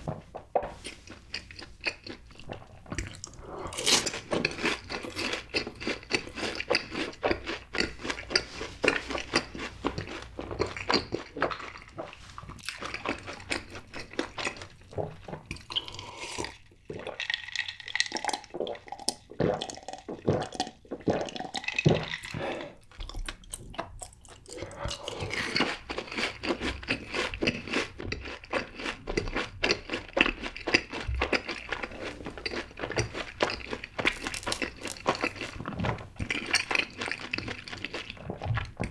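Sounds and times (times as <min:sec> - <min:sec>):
crunchy chewing: 0:00.8 - 0:38.9.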